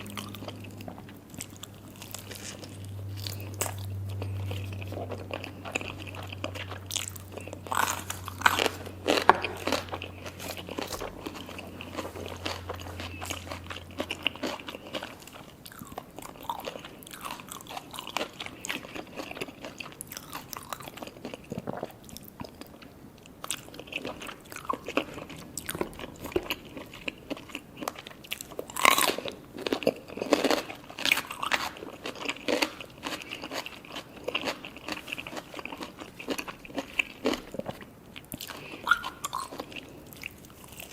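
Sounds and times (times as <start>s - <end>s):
crunching bites with wet chewing: 0.0s - 22.8s, 23.4s - 40.9s.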